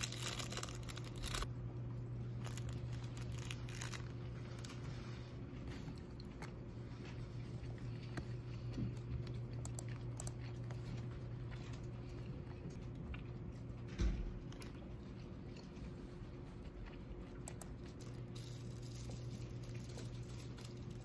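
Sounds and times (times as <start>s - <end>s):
low hum: 0.0s - 21.0s
person chewing rice cake: 0.0s - 21.0s.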